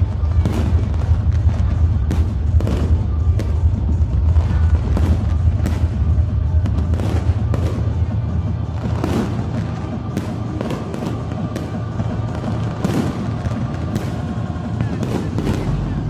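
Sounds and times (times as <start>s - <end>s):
fireworks bangs and crackles: 0.0s - 16.0s
loud music with low bass: 0.0s - 16.0s.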